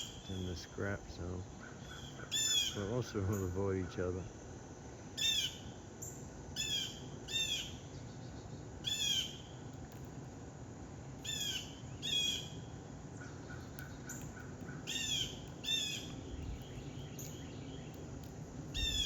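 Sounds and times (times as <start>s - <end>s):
songbird calling: 0.0s - 4.3s, 5.1s - 9.6s, 11.2s - 19.0s.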